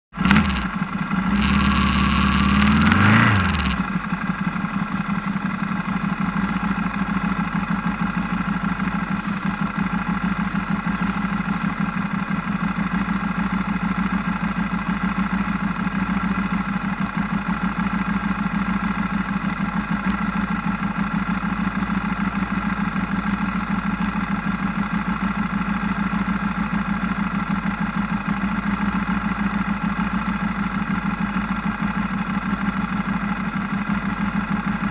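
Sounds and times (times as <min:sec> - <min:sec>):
motorcycle engine revving and idling: 0:00.0 - 0:34.9.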